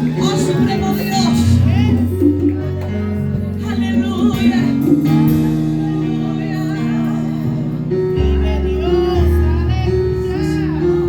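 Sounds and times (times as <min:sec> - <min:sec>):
band playing held chords: 0:00.0 - 0:11.0.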